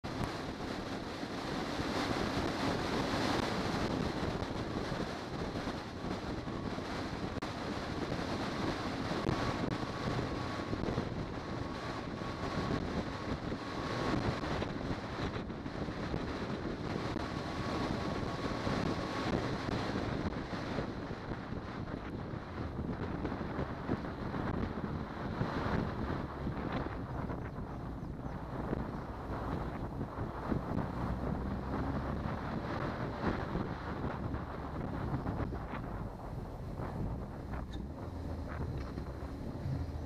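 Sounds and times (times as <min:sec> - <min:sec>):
road and engine noise: 0:00.0 - 0:40.0
wind buffeting microphone: 0:00.0 - 0:40.0.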